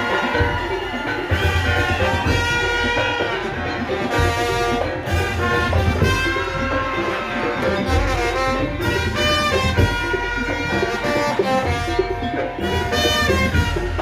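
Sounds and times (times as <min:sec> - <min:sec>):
drums: 0:00.0 - 0:14.0.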